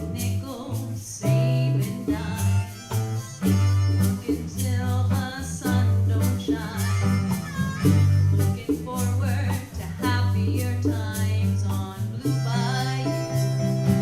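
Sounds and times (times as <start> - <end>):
guitar: 0.0 - 14.0
percussion: 0.0 - 14.0.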